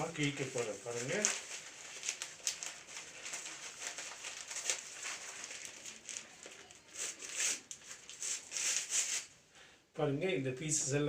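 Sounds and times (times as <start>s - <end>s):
newspaper tearing: 0.0s - 9.3s.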